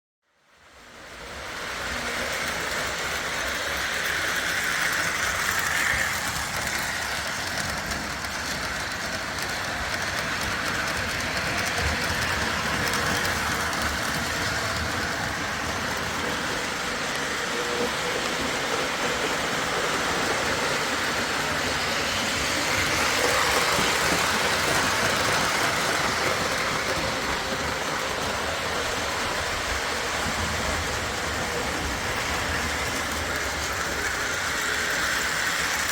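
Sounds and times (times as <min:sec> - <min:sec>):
model train rolling on track: 0:00.5 - 0:35.9.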